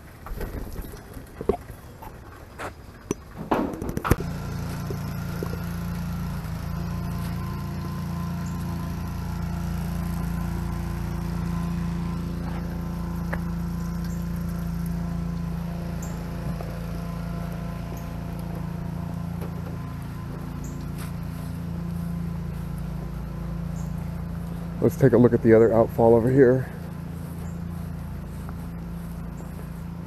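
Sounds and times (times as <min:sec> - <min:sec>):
steady motor hum: 0:00.0 - 0:30.0.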